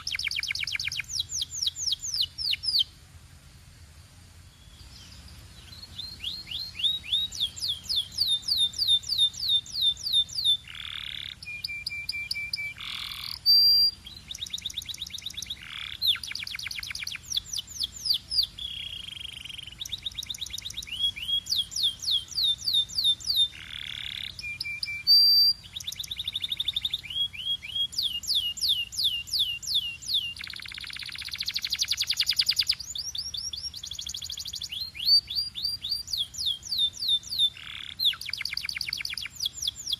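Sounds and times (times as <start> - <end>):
canary singing trills: 0.0 - 3.0, 4.5 - 39.9.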